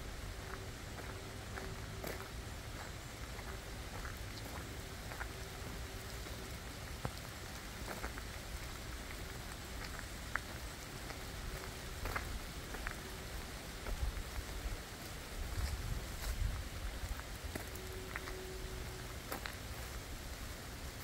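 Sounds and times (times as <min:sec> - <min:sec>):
rain falling through forest: 0:00.0 - 0:21.0
raindrops ticking: 0:00.2 - 0:21.0.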